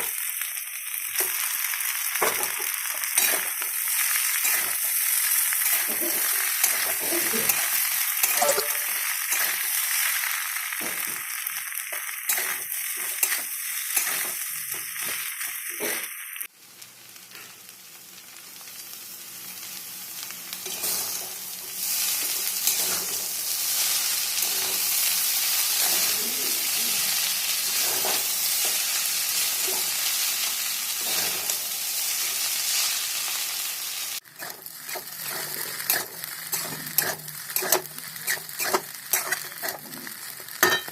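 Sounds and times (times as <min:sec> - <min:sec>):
food sizzling in a hot pan: 0:00.0 - 0:40.9.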